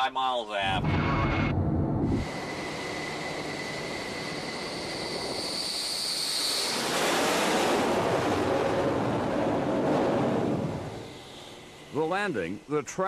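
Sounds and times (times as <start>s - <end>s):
jet engine whine and roar: 0.6s - 12.8s.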